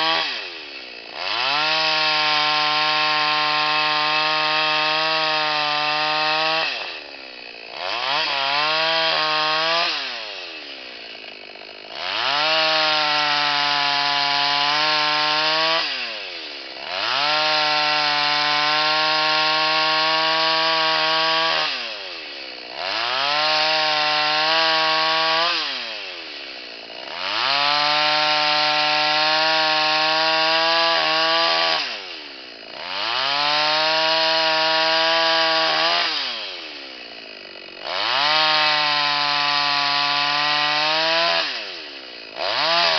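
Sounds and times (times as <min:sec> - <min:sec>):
chainsaw ripping log: 0:00.0 - 0:42.9.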